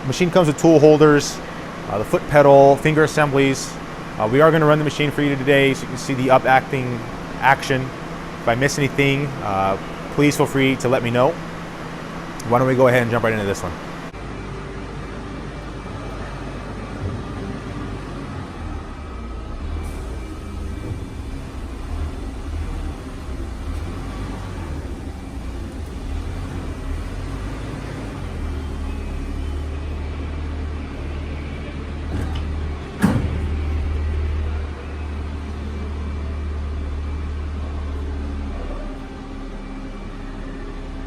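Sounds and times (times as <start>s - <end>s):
hydraulic pump humming: 0.0s - 41.0s.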